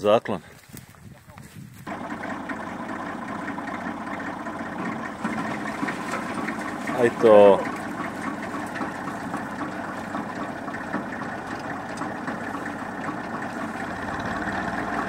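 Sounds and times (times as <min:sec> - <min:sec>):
tractor engine: 0:01.7 - 0:15.0
wood chipper running empty: 0:01.8 - 0:15.0.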